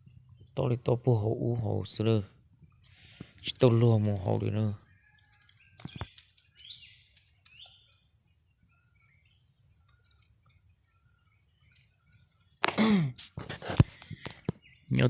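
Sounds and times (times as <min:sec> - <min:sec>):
bird chirps: 0:00.0 - 0:12.6, 0:14.2 - 0:15.0
insects whining: 0:00.0 - 0:15.0.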